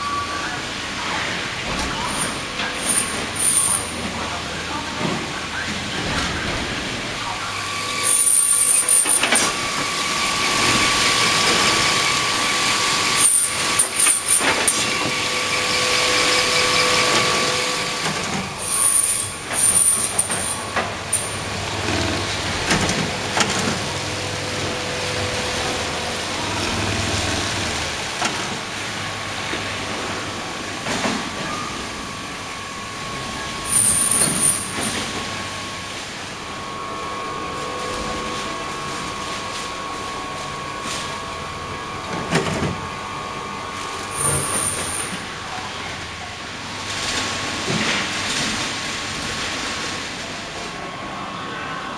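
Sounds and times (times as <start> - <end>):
machinery hum and hiss: 0.0 - 51.9.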